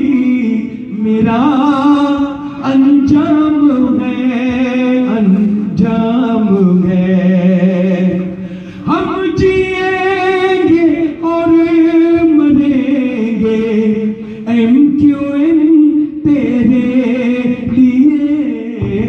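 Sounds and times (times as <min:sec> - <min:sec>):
man singing with vibrato: 0:00.0 - 0:19.0.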